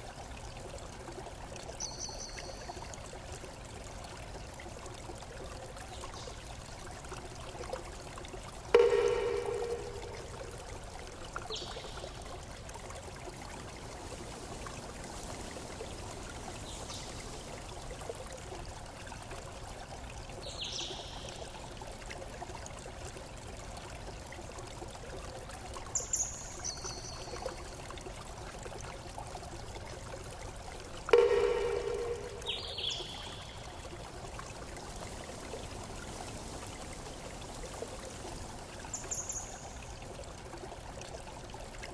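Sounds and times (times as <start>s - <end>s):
stream trickling: 0.0s - 41.9s.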